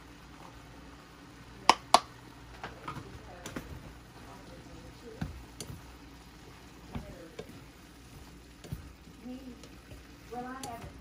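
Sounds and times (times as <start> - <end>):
wooden spoon stirring in skillet: 1.9 - 11.0.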